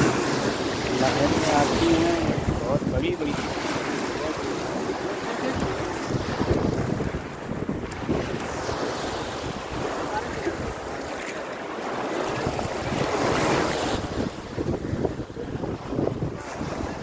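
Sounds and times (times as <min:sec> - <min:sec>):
wind buffeting microphone: 0:00.0 - 0:11.3, 0:12.1 - 0:17.0
sea surf washing: 0:00.0 - 0:17.0.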